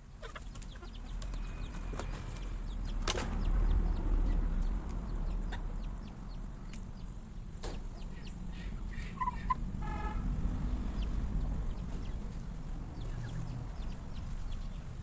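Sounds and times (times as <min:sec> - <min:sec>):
chickens clucking: 0:00.0 - 0:15.0
steady low rumble: 0:00.8 - 0:15.0.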